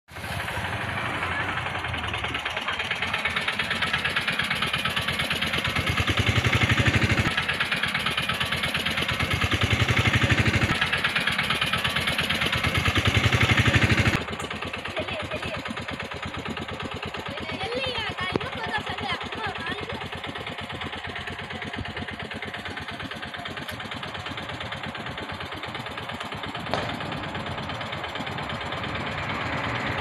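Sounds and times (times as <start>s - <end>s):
engine idling with rapid pulsing: 0.1s - 30.0s.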